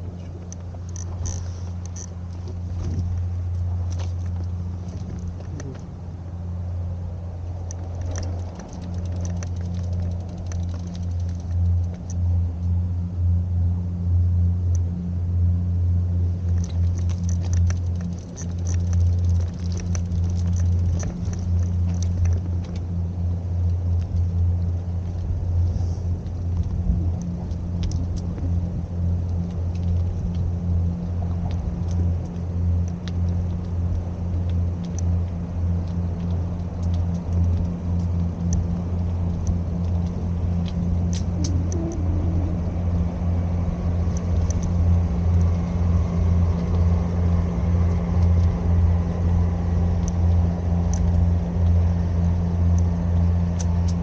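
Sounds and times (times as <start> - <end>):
small ticks and rattles: 0.0 - 6.5, 7.1 - 12.8, 16.2 - 54.0
car engine and road rumble: 0.0 - 54.0.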